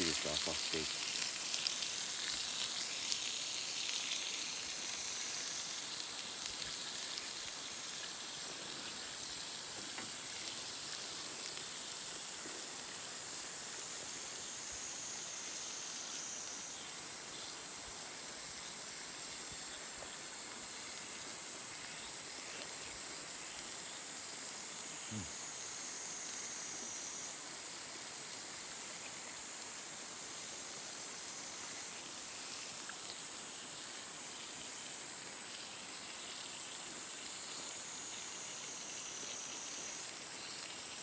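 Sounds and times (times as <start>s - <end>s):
steak sizzling in a pan: 0.0s - 41.0s.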